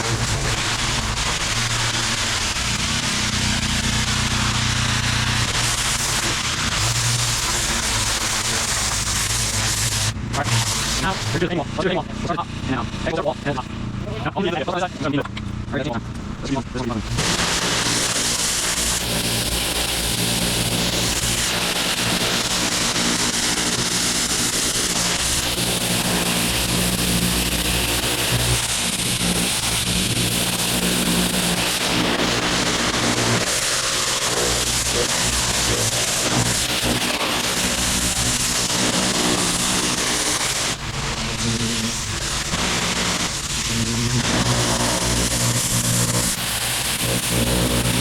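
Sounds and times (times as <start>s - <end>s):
pressure washer engine drone: 0.0s - 48.0s
water spraying onto paving: 0.0s - 48.0s.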